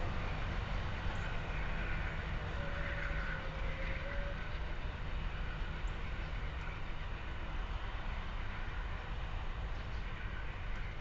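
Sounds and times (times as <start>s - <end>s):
thin steady whine: 0.0s - 11.0s
train rumbling on tracks: 0.0s - 11.0s.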